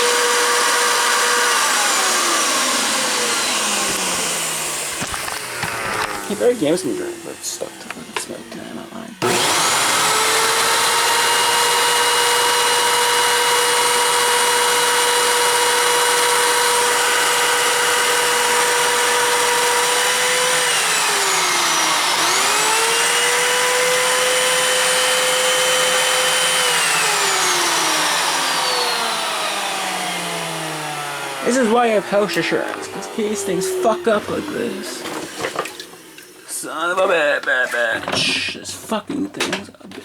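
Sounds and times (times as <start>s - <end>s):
high-speed electric motor whine: 0.0s - 37.0s.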